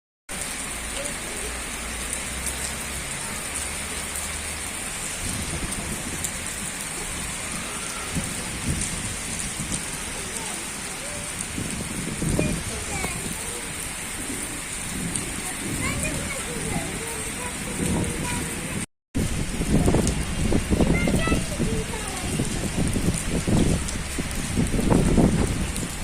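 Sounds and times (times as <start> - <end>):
heavy rain splashing: 0.3 - 26.0.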